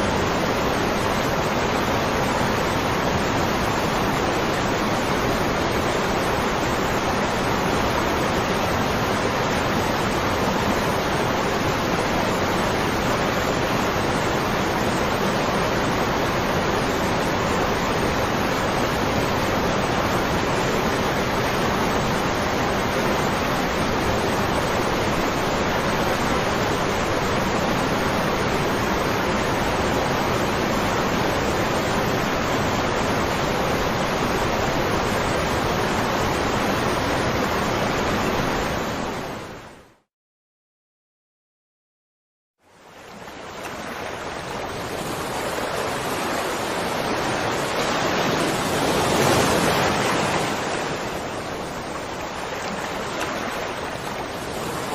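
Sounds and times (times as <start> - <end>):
waterfall rushing: 0.0 - 39.6, 42.8 - 54.9.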